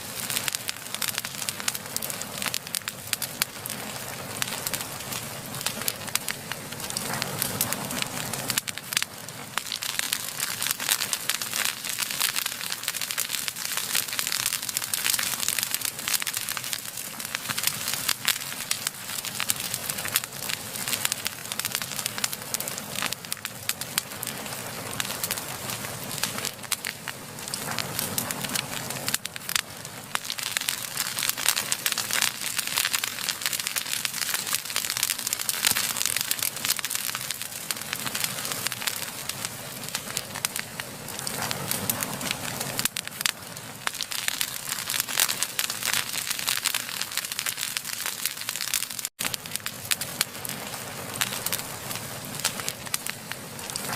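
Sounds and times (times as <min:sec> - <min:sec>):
fire crackling and popping: 0:00.0 - 0:53.9.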